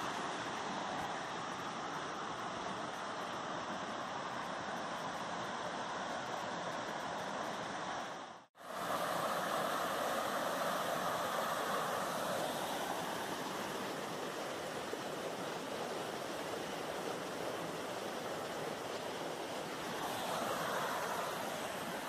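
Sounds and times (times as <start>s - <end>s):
stream rushing over stones: 0.0s - 22.0s.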